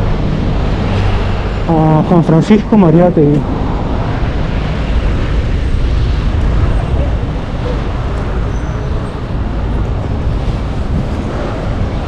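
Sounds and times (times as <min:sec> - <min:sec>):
city traffic: 0:00.0 - 0:12.0
wind on microphone: 0:00.0 - 0:12.0.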